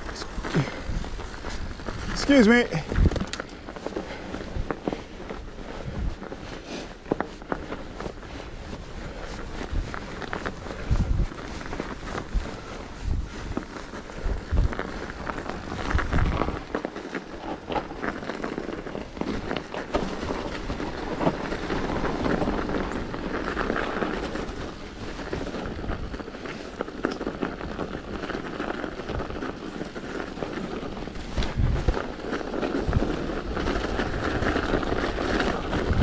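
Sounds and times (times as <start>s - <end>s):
bike tyres rattling over snow: 0.0s - 36.0s.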